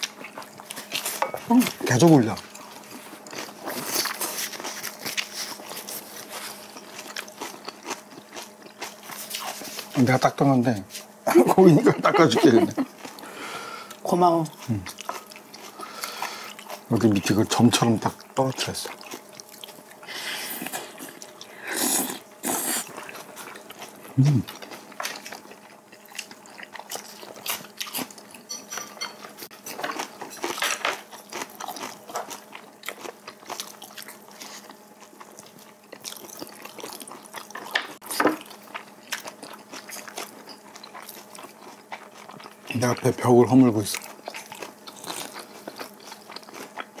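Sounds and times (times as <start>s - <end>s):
chewing: 0.0s - 10.0s, 12.8s - 47.0s.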